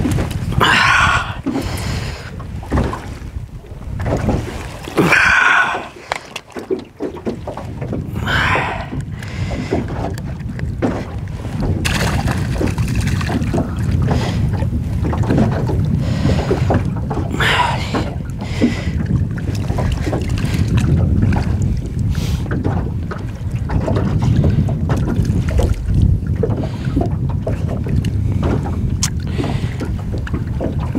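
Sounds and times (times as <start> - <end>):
water slapping against metal boat: 0.0 - 30.9
wind rumbling on microphone: 0.0 - 30.9.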